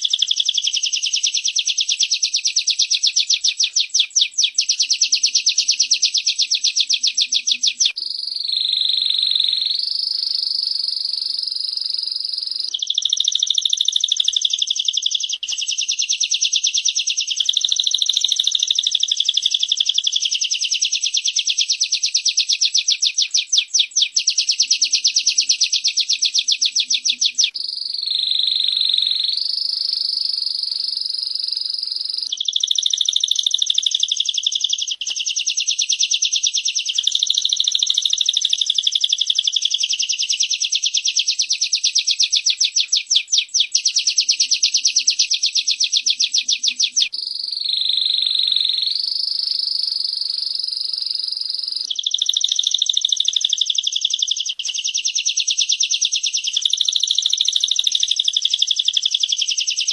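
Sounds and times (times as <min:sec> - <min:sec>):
bird trilling: 0:00.0 - 0:59.9.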